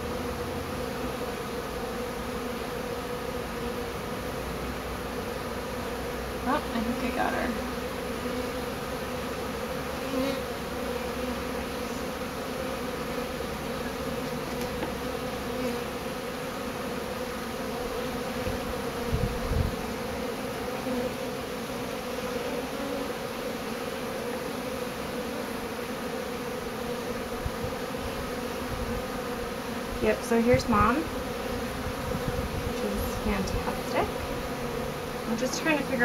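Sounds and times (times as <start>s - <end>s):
bee swarm buzzing: 0.0s - 36.0s.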